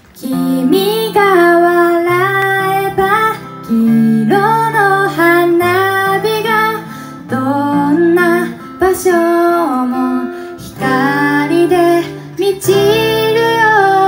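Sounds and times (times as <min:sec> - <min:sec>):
amplified acoustic guitar strumming: 0:00.0 - 0:14.0
woman singing: 0:00.0 - 0:14.0.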